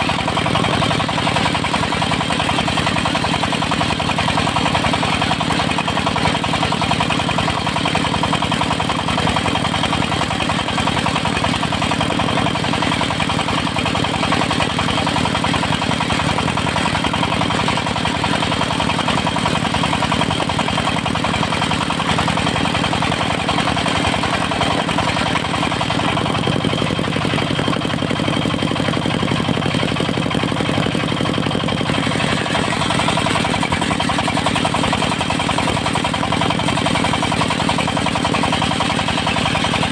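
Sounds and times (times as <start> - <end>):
saw mill engine running: 0.0 - 39.9.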